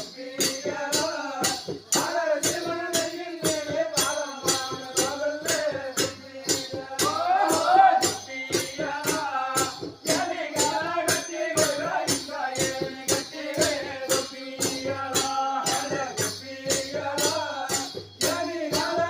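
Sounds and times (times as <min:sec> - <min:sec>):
jingling rattling percussion: 0:00.0 - 0:19.0.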